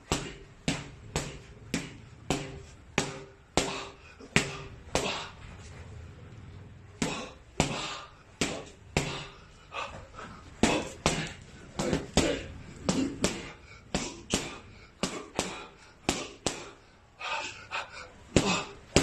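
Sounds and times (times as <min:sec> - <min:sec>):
boxing gloves punching pads: 0:00.0 - 0:05.4, 0:07.0 - 0:16.9, 0:18.2 - 0:19.0.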